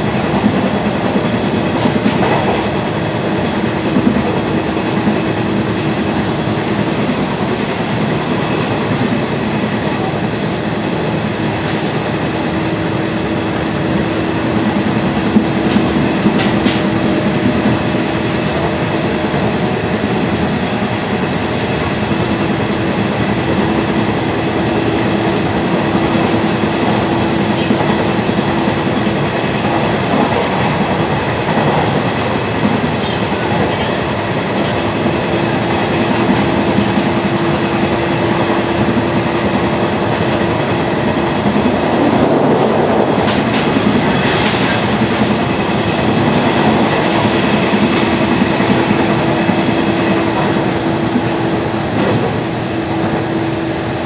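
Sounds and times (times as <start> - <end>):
electric train hum: 0.0 - 54.0
train clatter: 0.0 - 54.0
wheels rumbling on rails: 0.0 - 54.0.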